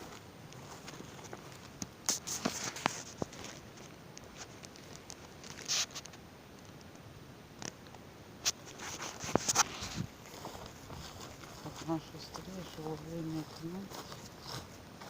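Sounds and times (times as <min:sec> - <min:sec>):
footsteps on dry leaves: 0:00.0 - 0:06.0, 0:08.5 - 0:15.0.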